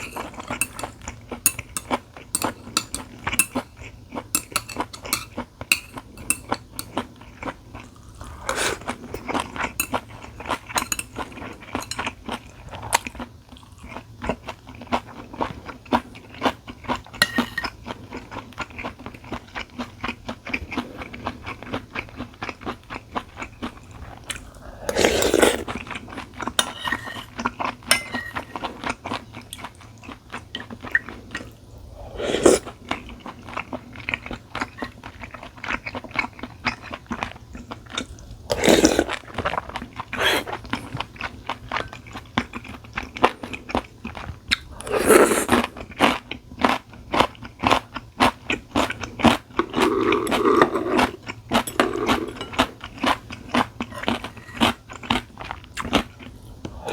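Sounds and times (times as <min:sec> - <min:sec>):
chewing food: 0:00.0 - 0:26.6, 0:27.2 - 0:56.9.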